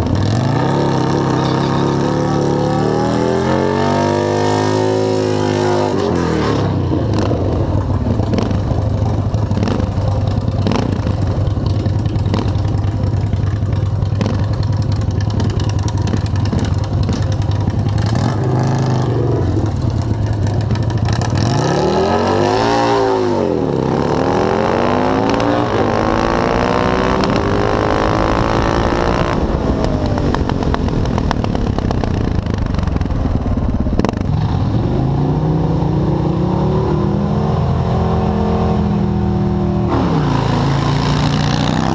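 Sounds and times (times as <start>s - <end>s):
motorcycle engine revving: 0.0s - 41.9s
motorcycle engines droning: 0.0s - 41.9s.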